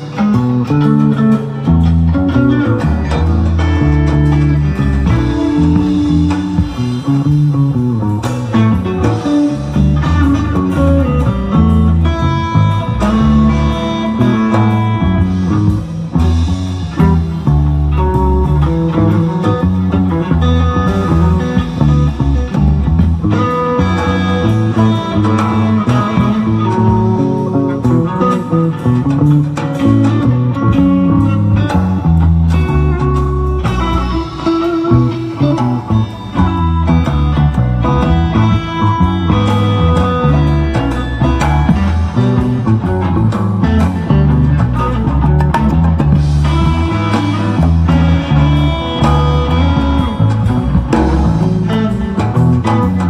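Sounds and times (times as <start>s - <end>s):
bass guitar: 0.0s - 53.0s
electric guitar lines: 0.0s - 53.0s.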